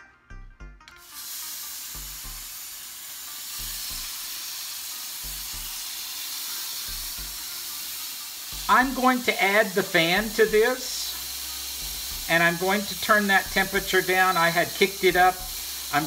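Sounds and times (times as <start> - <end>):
meat sizzling on a grill: 1.0 - 16.0.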